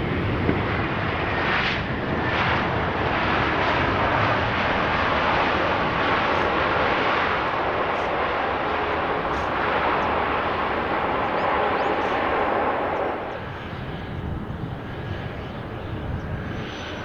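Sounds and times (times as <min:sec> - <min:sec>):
aircraft engine rush: 0:00.0 - 0:17.0.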